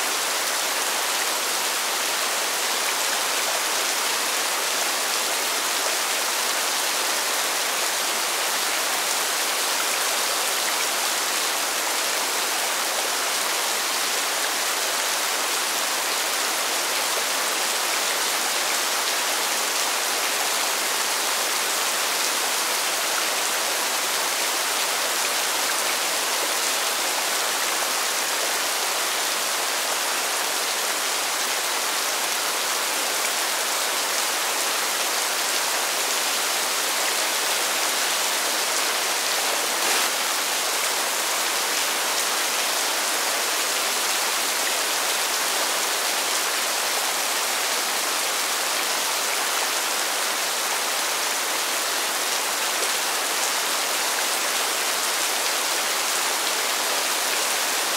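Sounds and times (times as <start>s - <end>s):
rain falling on pavement: 0.0s - 57.9s.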